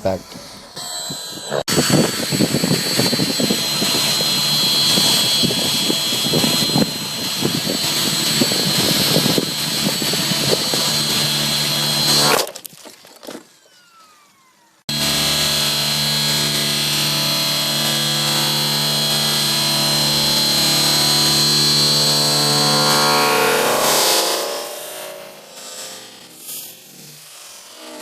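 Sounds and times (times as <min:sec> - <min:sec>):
rc helicopter motor whine: 0:00.0 - 0:28.0.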